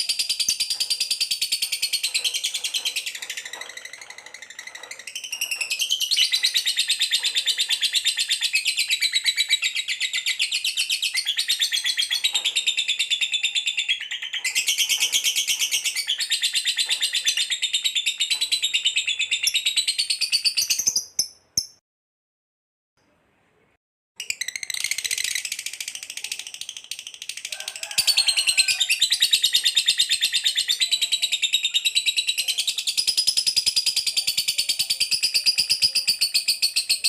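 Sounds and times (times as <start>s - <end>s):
cage birds chirping and trilling: 0.0s - 21.6s, 24.2s - 37.0s.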